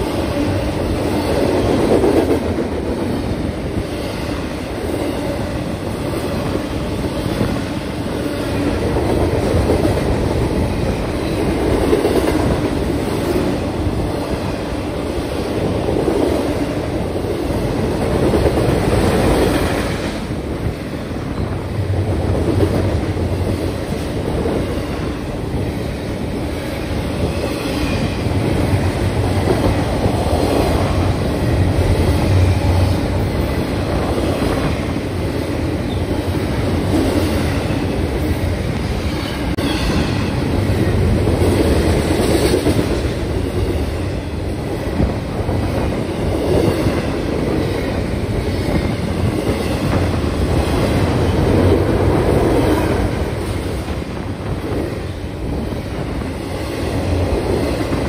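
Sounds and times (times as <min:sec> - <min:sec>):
freight train rolling past: 0:00.0 - 0:58.0
steel wheels on rails: 0:00.0 - 0:58.0.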